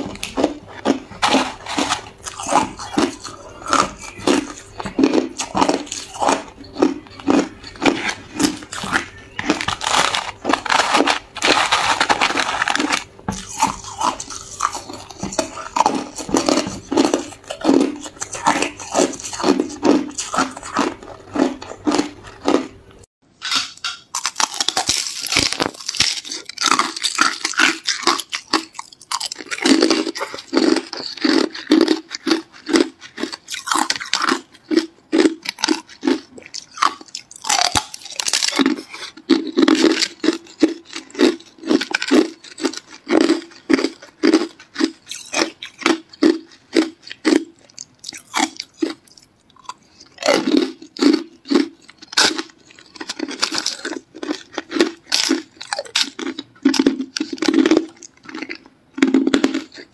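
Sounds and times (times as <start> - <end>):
ice crunching while chewed: 0.0 - 59.9.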